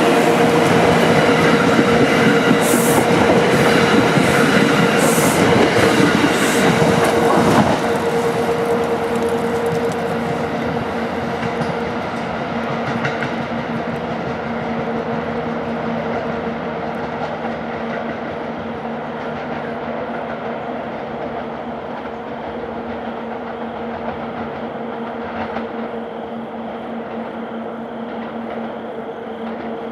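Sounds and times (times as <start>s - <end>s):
train hum: 0.0s - 29.9s
train wheels rumbling on rails: 0.0s - 29.9s.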